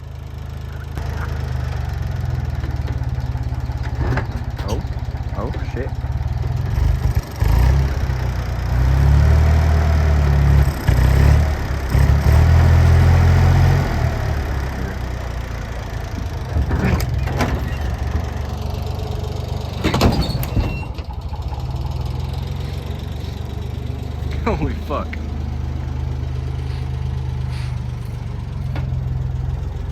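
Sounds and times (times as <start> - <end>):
loader engine running under load: 0.0 - 29.9.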